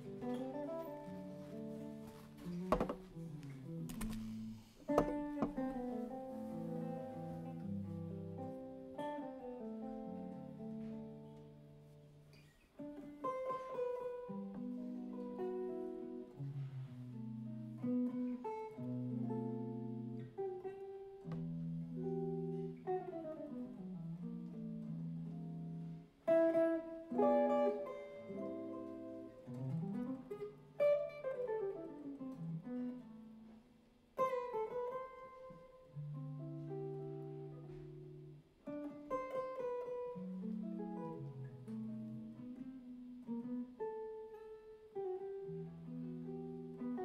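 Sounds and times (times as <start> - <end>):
electric jazz guitar: 0.0 - 47.0.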